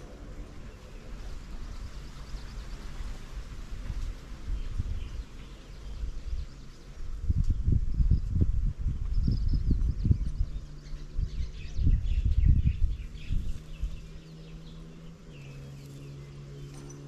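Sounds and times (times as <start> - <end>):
low rumbling bumps: 0.0 - 15.4
small birds chirping: 0.0 - 17.0
steady low buzzing hum: 0.0 - 17.0.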